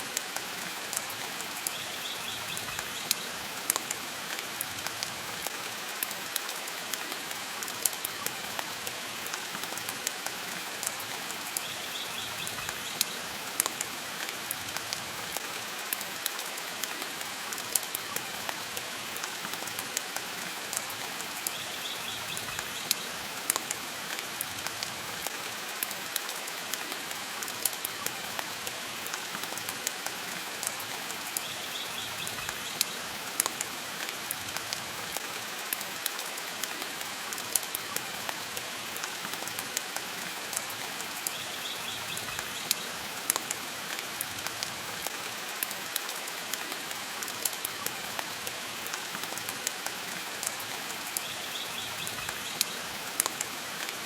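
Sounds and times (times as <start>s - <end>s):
rain hiss: 0.0s - 54.0s.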